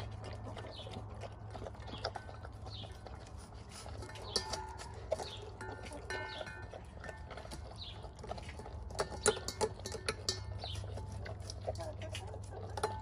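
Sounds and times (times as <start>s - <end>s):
dog chewing and slurping: 0.0s - 13.0s
teeth clicking on metal bowl: 0.0s - 13.0s.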